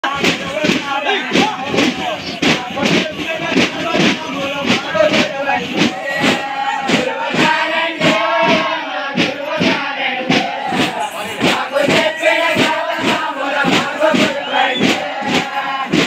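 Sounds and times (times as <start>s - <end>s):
frame drums beaten in rhythm: 0.0s - 16.0s
men chanting: 0.0s - 16.0s.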